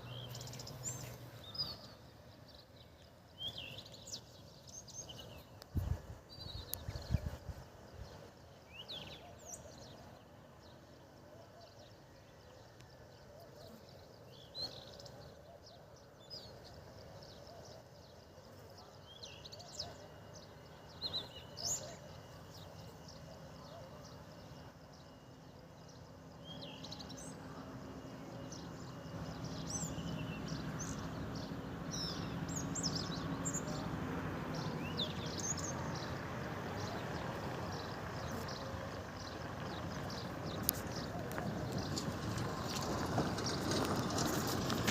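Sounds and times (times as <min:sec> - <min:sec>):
bird twittering song: 0:00.0 - 0:44.9
low background hum: 0:00.0 - 0:44.9.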